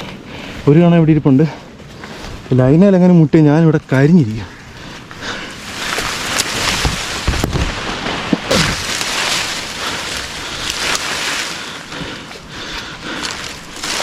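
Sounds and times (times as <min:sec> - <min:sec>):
dry palm fronds rustling: 0:00.0 - 0:14.0.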